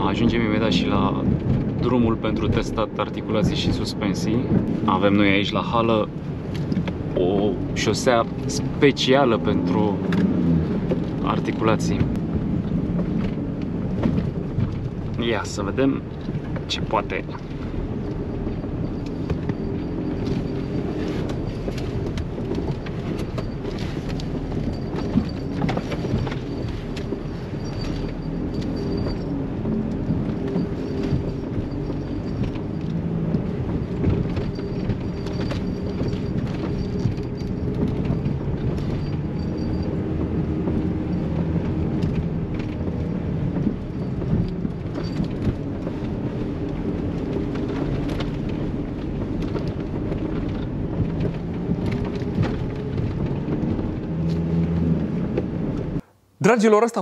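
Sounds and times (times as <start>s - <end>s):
wheels knocking over bumps: 0.0s - 56.0s
car engine running: 0.0s - 56.2s
tyre and suspension rumble: 0.0s - 56.4s.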